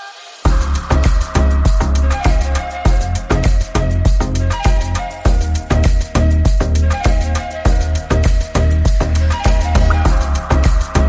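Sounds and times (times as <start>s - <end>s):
electronic music with heavy bass: 0.4s - 11.0s.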